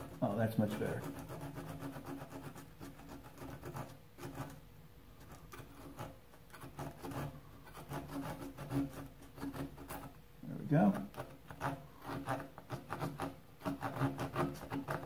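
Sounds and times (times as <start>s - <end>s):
hand saw cutting wood: 0.0s - 4.6s, 5.6s - 10.1s, 10.8s - 15.0s.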